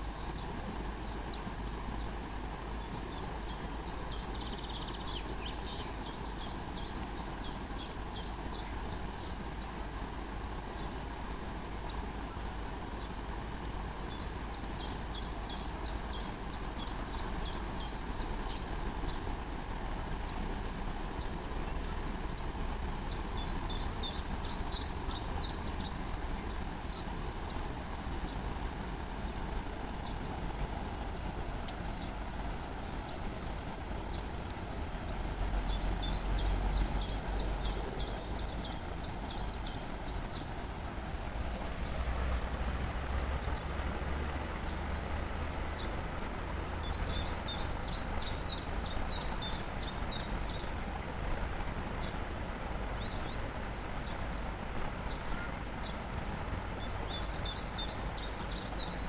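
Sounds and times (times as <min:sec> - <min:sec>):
songbird singing: 0:00.0 - 0:59.0
waterfall rushing: 0:00.0 - 0:59.0.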